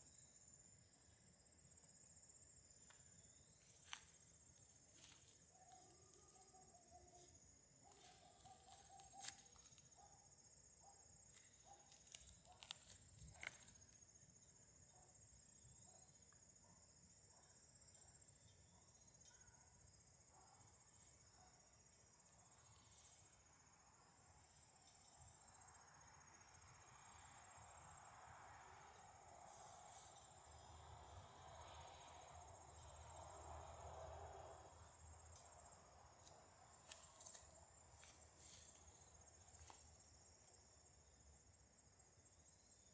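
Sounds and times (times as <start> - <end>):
crickets chirring: 0.0 - 42.9.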